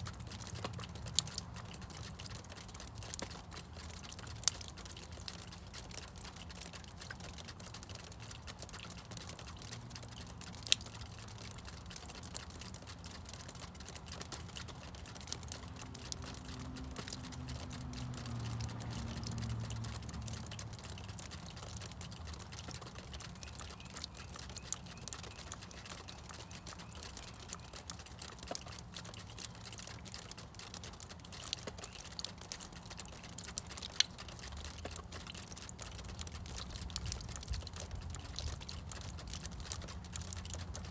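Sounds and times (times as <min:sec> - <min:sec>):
meltwater dripping: 0:00.0 - 0:40.9.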